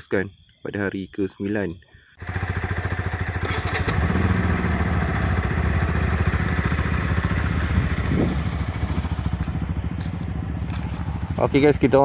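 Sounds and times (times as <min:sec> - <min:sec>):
motorcycle engine idling: 0:02.2 - 0:12.0.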